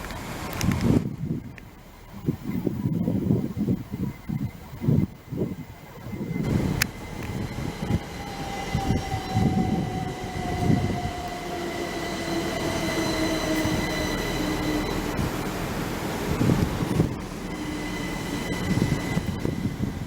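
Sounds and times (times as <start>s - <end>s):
train rumble: 0.0s - 20.0s
train whine falling in pitch: 1.4s - 20.0s.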